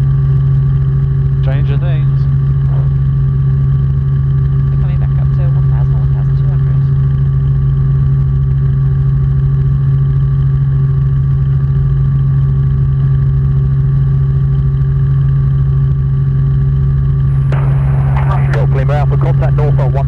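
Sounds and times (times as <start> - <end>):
helicopter engine hum: 0.0 - 20.0
helicopter rotor beat: 0.0 - 20.0.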